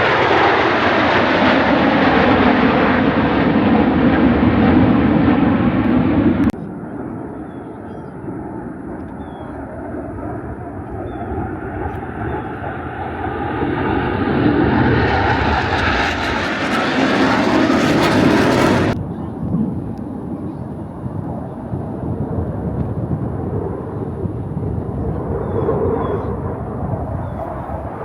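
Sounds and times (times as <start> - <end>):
airplane engine rush: 0.0 - 28.0
approaching aircraft: 0.0 - 28.0.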